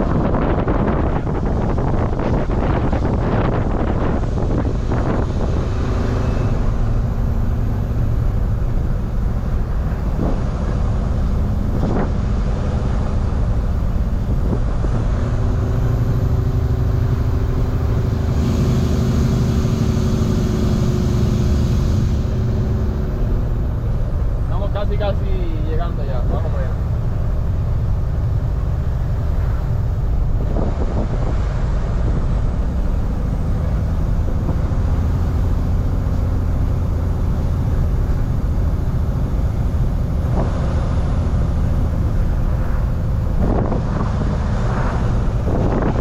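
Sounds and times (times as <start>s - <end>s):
diesel truck engine under load: 0.0s - 46.0s.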